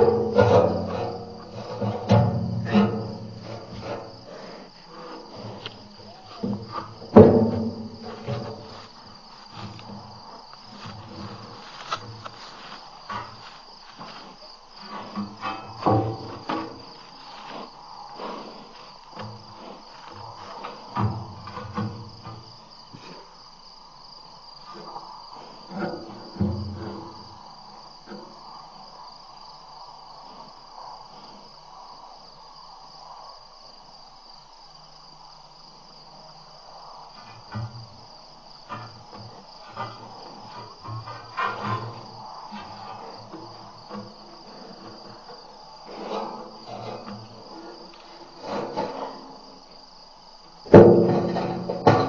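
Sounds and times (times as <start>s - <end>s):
crickets chirring: 0.0s - 52.0s.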